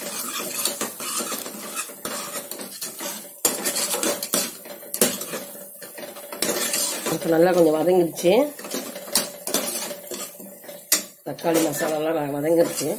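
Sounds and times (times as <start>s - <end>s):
metal ladle scraping a pot: 0.0s - 12.9s.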